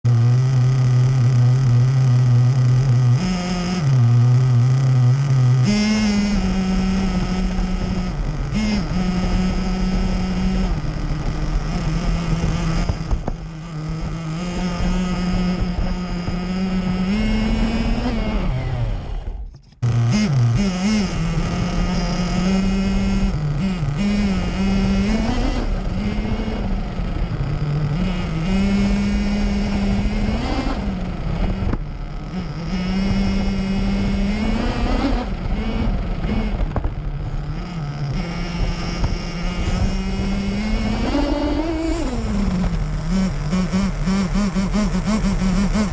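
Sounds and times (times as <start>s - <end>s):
small two-stroke engine revving: 0.0s - 45.9s.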